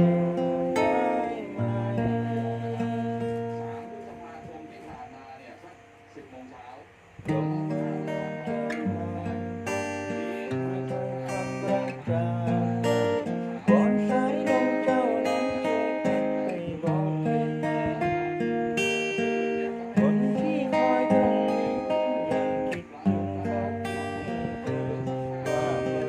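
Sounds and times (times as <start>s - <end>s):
acoustic guitar strummed chords: 0.0s - 26.0s.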